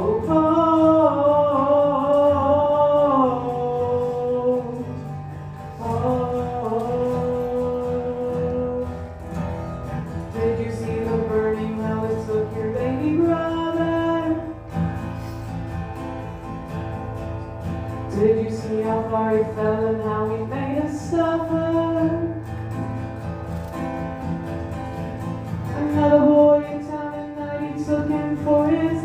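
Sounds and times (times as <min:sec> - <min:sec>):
strummed guitar: 0:00.0 - 0:29.0.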